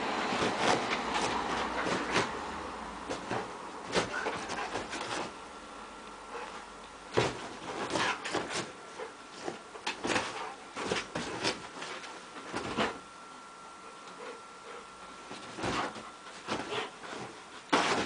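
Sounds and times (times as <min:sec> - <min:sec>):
dog pawing on bedcovers: 0:00.2 - 0:05.4, 0:06.4 - 0:13.1, 0:14.1 - 0:18.0.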